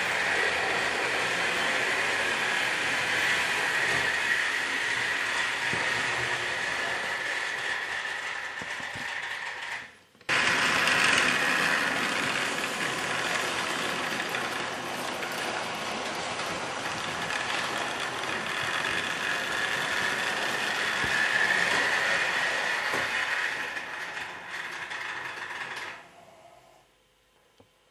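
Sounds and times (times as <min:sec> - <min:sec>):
model trains running on track: 0:00.0 - 0:26.2.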